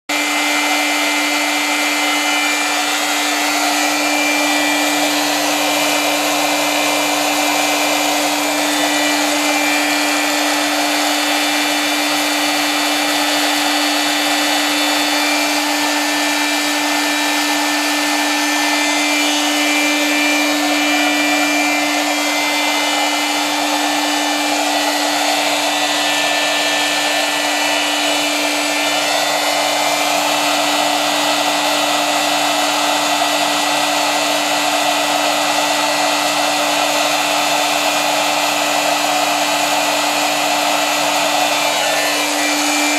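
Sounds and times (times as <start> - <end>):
blower fan rushing air: 0.1 - 42.9.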